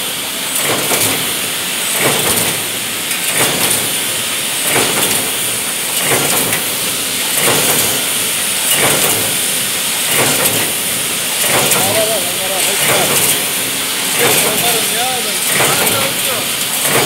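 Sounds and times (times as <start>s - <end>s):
machine tooling clattering: 1.9s - 17.0s.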